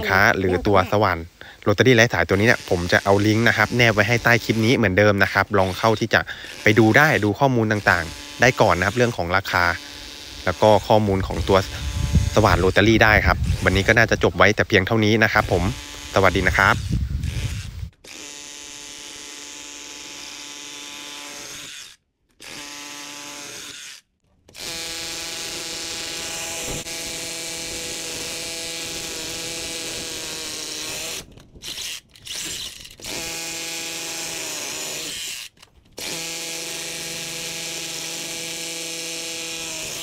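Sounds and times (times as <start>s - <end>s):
rotary hammer drilling concrete: 0.0s - 40.0s.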